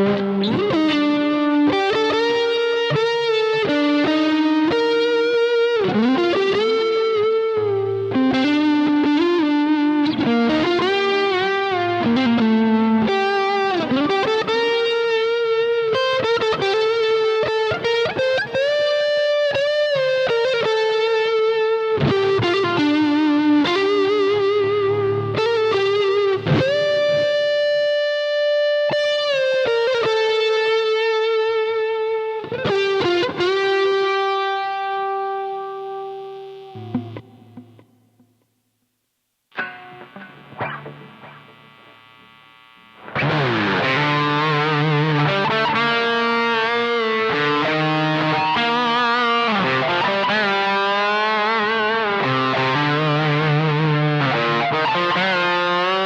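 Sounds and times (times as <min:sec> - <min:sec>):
overdriven electric guitar lead: 0:00.0 - 0:56.0.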